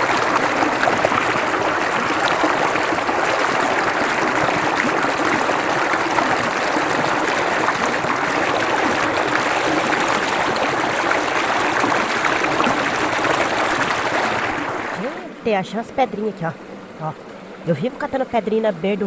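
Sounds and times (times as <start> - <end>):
stream flowing over stones: 0.0 - 15.4.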